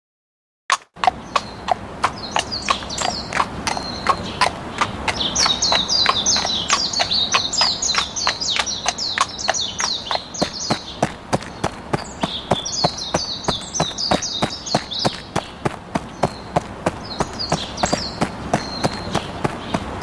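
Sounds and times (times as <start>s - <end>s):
horse hooves clip-clopping: 0.7s - 20.0s
birds chirping: 1.0s - 20.0s.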